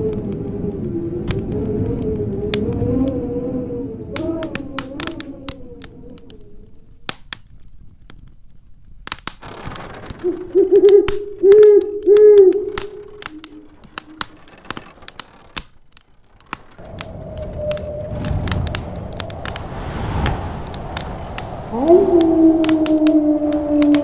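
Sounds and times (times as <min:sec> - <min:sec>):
wind whistling howl: 0:00.0 - 0:08.3, 0:09.4 - 0:24.0
wood fire crackling and popping: 0:00.0 - 0:24.0.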